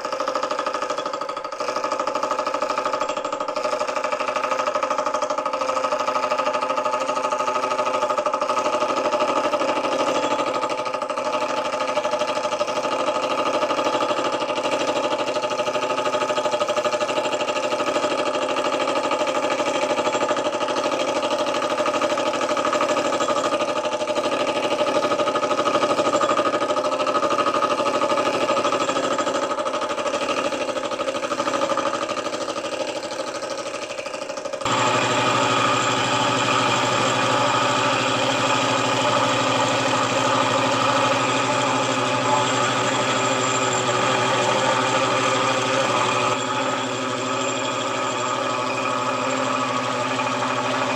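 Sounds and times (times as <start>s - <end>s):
milling machine running: 0.0s - 50.9s.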